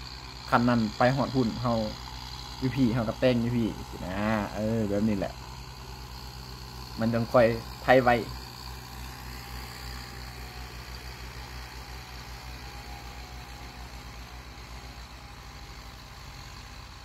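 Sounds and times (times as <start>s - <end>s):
diesel tractor engine running: 0.0s - 17.0s.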